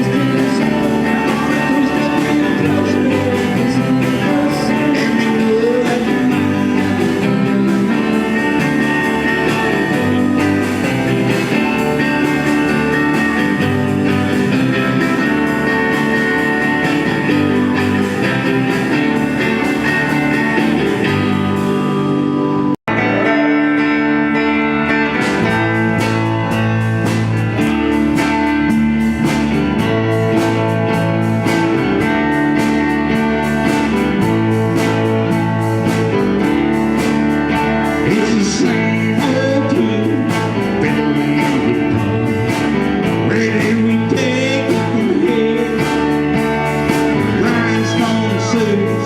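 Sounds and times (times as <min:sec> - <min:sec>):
band playing guitar-led music: 0:00.0 - 0:49.0.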